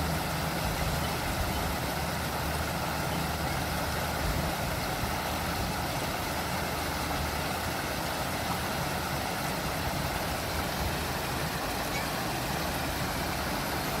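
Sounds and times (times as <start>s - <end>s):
rushing water feature: 0.0s - 14.0s.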